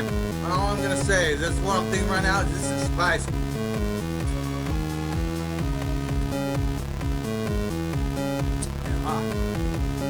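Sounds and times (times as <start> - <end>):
electronic music with synth and bass: 0.0 - 10.0.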